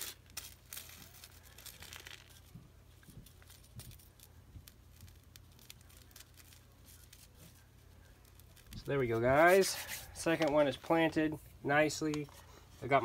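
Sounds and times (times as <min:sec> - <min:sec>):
hands working potting soil: 0:00.7 - 0:13.0.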